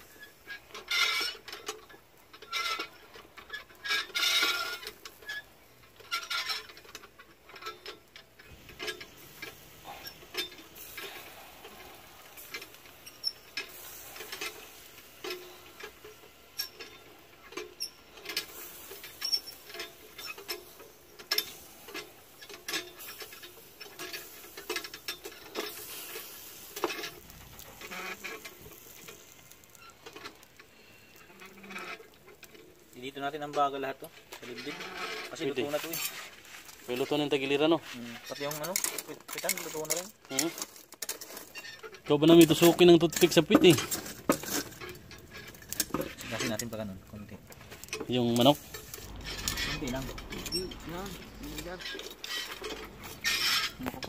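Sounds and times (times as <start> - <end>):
chicken crackling on spit: 0.0 - 54.0.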